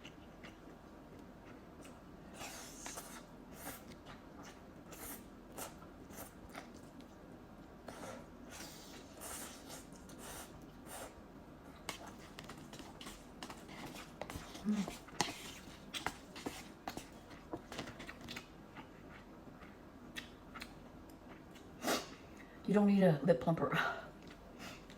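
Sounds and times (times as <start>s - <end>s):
person chewing noodles: 0.0s - 11.2s, 11.8s - 22.2s.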